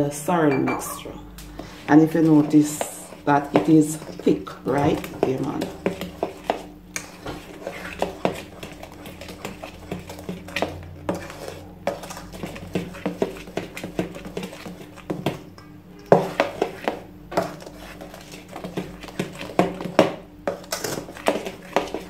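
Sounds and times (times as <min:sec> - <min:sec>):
fork beating batter in metal bowl: 0:02.0 - 0:15.4, 0:16.0 - 0:22.0.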